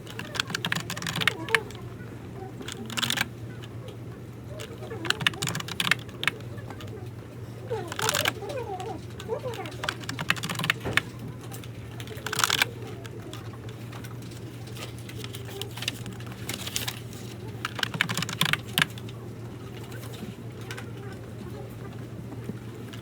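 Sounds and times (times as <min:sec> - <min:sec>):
typing on a computer keyboard: 0:00.0 - 0:21.0.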